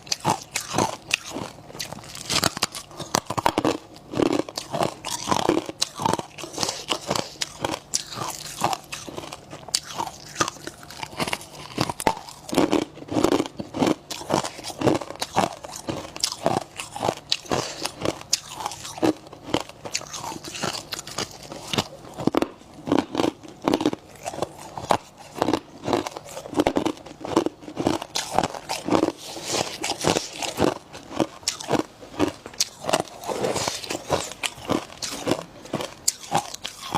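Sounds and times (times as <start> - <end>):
chewing crunchy ice: 0.0 - 36.9.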